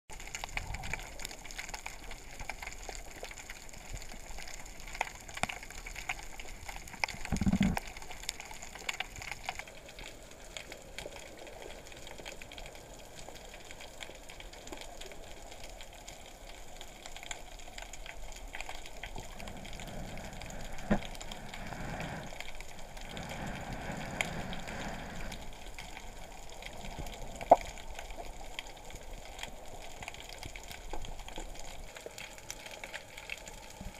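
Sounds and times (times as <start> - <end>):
underwater crackling hiss: 0.1 - 33.9.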